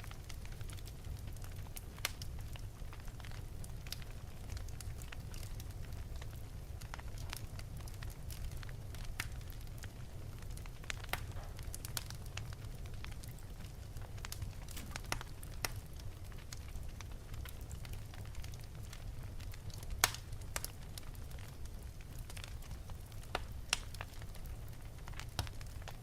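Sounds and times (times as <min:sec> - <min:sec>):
burning wood crackles and pops: 0:00.0 - 0:26.0
wood fire burning: 0:00.0 - 0:26.0.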